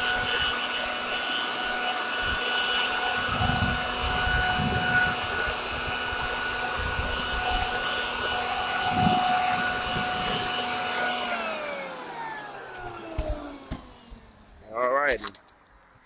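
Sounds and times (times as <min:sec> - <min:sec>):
electric leaf blower whining: 0:00.0 - 0:14.9.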